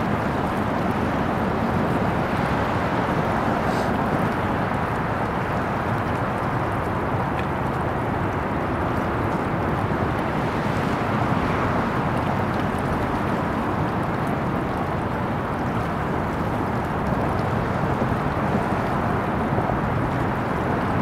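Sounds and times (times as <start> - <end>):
steady rushing outdoor noise: 0.0 - 21.0.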